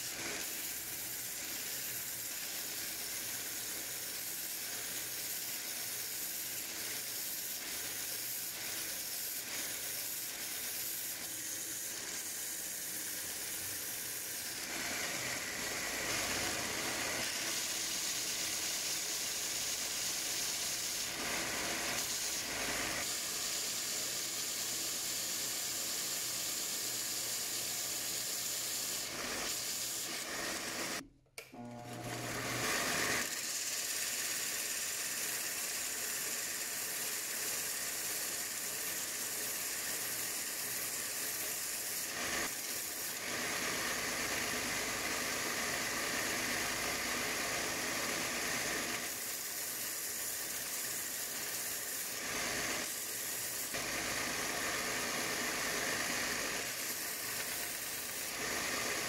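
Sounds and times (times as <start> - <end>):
belt sander running: 0.0 - 59.0.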